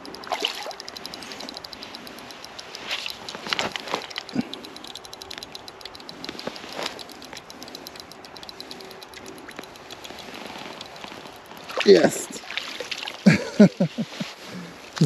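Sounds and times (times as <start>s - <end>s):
fast steady ticking: 0.0s - 15.0s.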